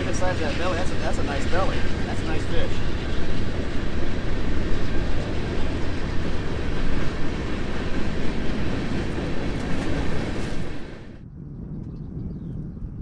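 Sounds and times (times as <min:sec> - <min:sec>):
freight train rolling: 0:00.0 - 0:11.2.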